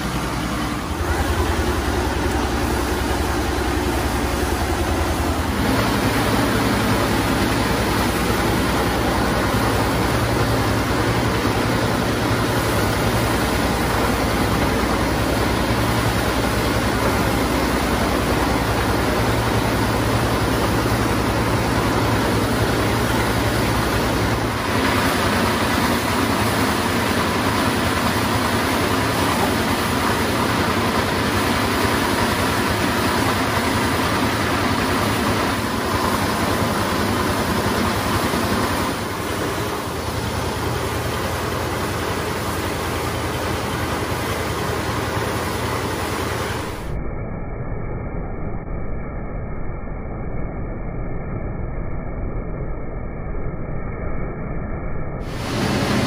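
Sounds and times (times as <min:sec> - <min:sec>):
thresher whirring and rattling: 0:00.0 - 0:46.9, 0:55.3 - 0:56.0
steady higher hum: 0:00.0 - 0:56.0.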